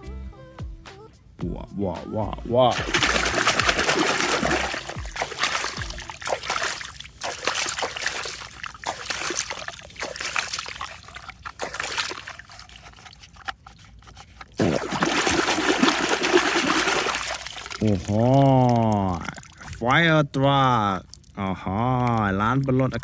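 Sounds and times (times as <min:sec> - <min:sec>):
water trickling and splashing: 0:02.5 - 0:23.0.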